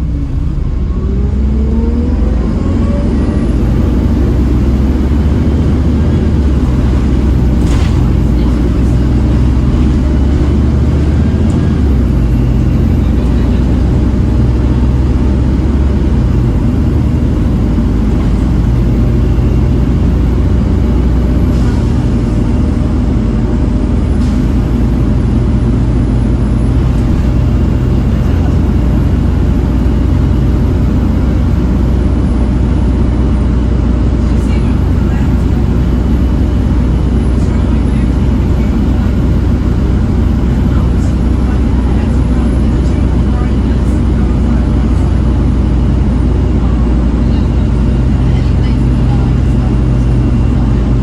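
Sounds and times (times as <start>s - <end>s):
diesel bus engine with whine: 0.0s - 51.0s.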